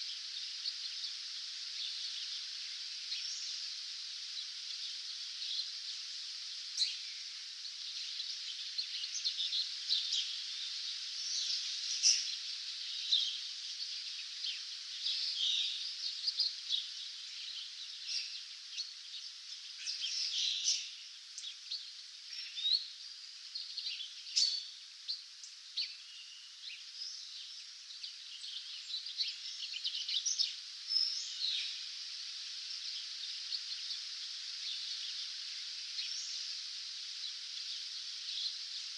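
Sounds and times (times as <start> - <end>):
steady hiss: 0.0 - 38.9
songbirds chirping and singing: 6.7 - 38.9.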